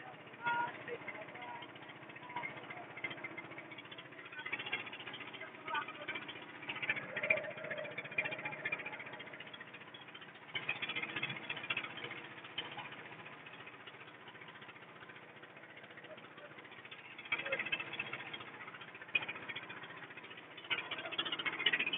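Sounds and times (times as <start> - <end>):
boat engine running with rattle: 0.0 - 21.9.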